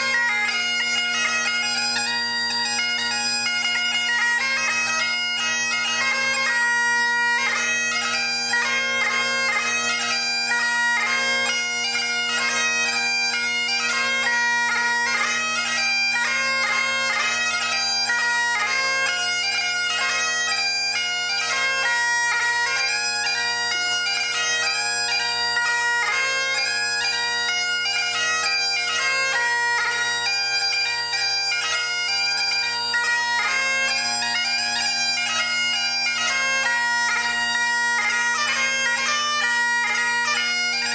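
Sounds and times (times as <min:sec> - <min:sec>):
bagpipe chanter melody: 0:00.0 - 0:40.9
bagpipe drones: 0:00.0 - 0:40.9.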